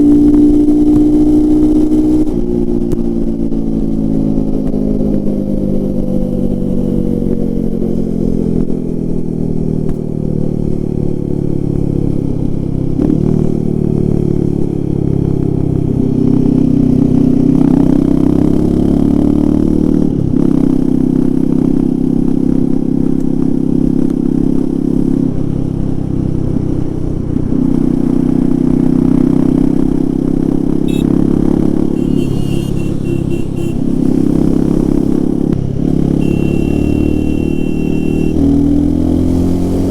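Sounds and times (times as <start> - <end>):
motorcycle engine revving: 0.0 - 9.6, 12.2 - 39.9.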